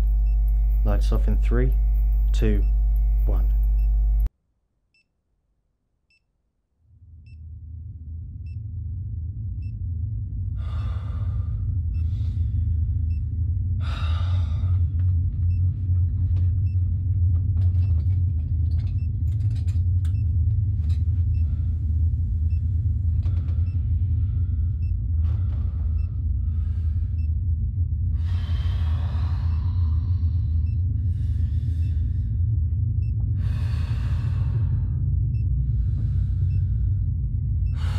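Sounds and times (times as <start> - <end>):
low rumbling drone: 0.0 - 4.3, 6.8 - 37.9.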